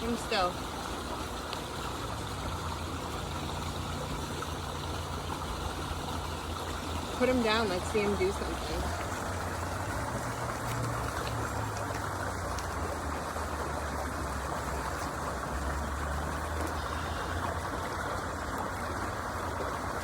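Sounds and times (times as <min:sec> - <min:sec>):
running water rushing: 0:00.0 - 0:20.0.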